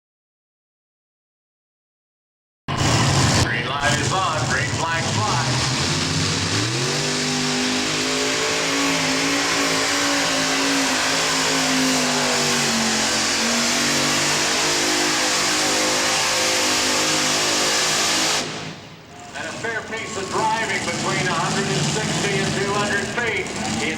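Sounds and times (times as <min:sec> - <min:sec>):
tractor engine running flat out: 0:02.7 - 0:17.2, 0:17.8 - 0:23.9.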